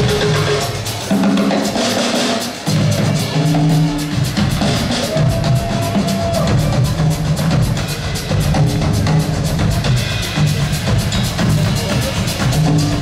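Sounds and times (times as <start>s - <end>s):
drum kits playing fast: 0.0s - 13.0s.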